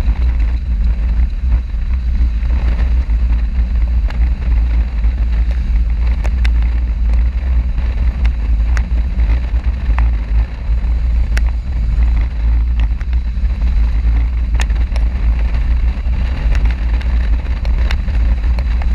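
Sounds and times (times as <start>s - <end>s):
motorcycle engine running: 0.0s - 18.9s
wind buffeting microphone: 0.0s - 18.9s.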